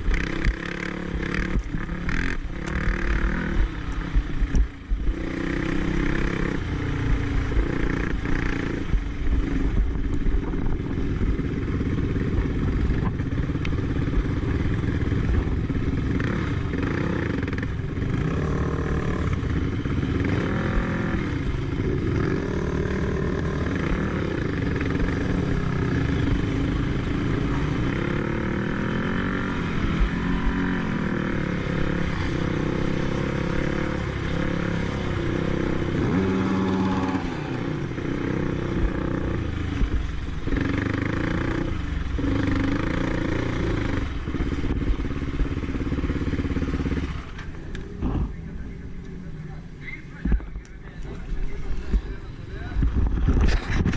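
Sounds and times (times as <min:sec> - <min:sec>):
quad engine revving: 0:00.0 - 0:53.9.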